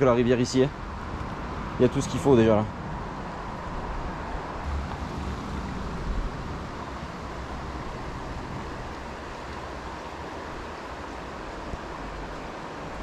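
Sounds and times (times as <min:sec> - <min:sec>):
river water rushing: 0:00.4 - 0:13.0.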